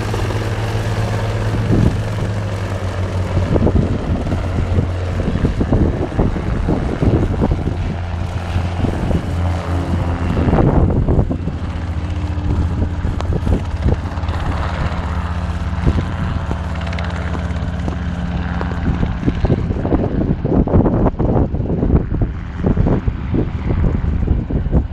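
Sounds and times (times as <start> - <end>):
propeller aircraft engine droning: 0.0 - 24.9
wind gusts on microphone: 0.0 - 24.9.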